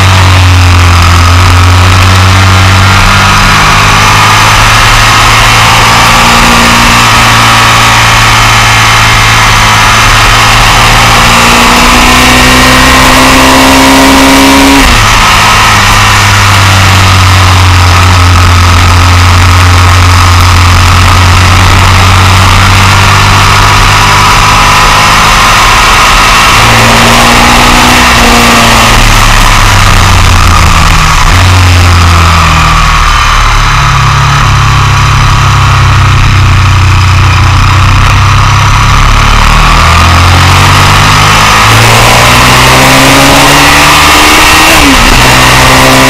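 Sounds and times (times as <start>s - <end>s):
motorcycle engine at high revs: 0.0s - 46.0s.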